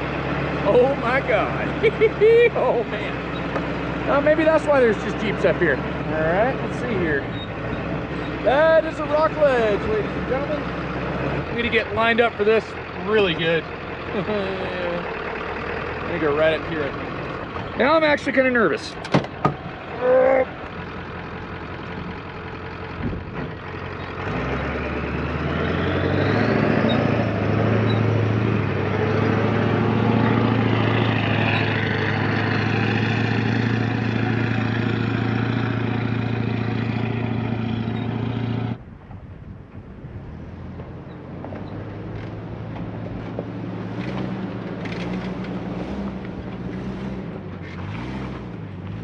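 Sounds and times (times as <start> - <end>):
diesel truck engine under load: 0.0 - 49.0
quieter vehicle engine: 0.0 - 49.0.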